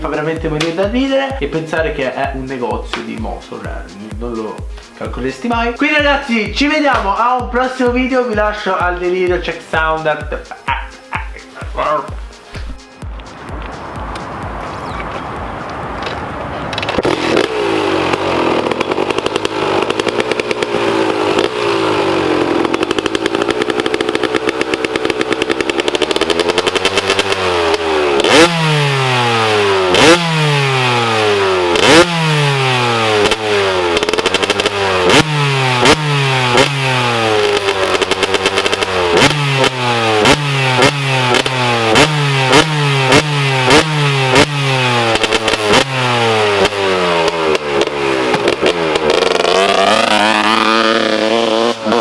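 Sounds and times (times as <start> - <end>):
two-stroke engine revving: 0.0 - 12.8, 13.4 - 52.0.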